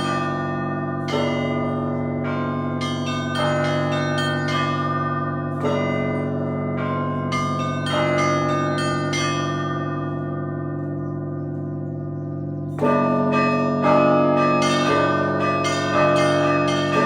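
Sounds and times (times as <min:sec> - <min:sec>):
church bells pealing: 0:00.0 - 0:17.0
hum of large bells: 0:00.0 - 0:17.0.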